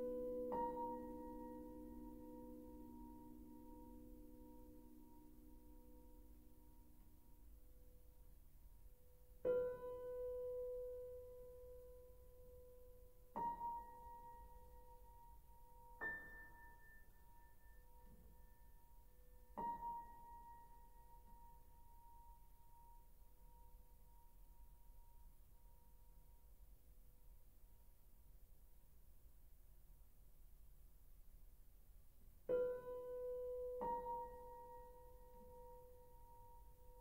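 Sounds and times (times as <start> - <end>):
soft piano notes: 0.0 - 26.4, 32.4 - 37.0.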